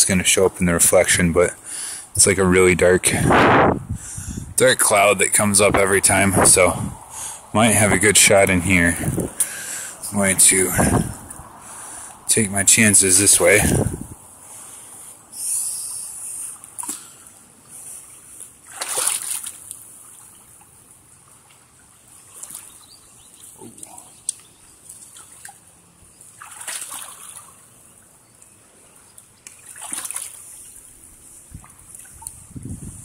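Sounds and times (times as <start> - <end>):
pond water splashing: 4.8 - 32.5.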